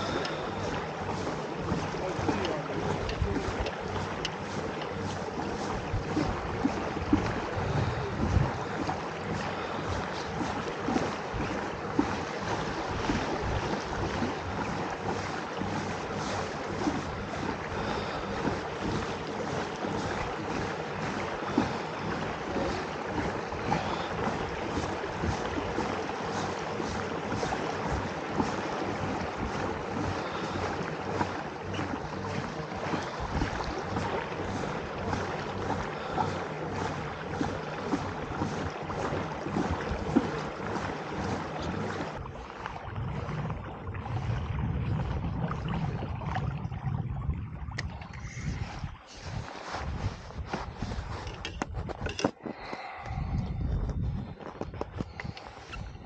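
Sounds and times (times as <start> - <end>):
water splashing against hull: 0.0 - 56.0
wind buffeting microphone: 0.0 - 56.0.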